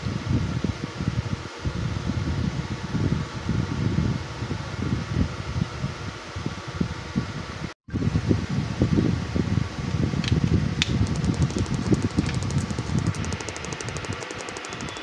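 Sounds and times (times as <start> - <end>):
whirring air noise: 0.0 - 15.0.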